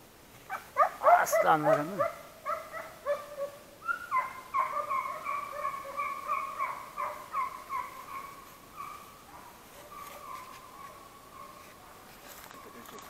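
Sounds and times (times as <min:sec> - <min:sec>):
dogs yelping: 0:00.5 - 0:11.8.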